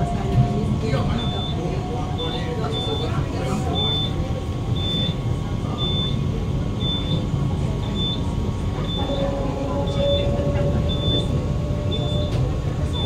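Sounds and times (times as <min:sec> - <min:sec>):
train car low hum: 0:00.0 - 0:13.0.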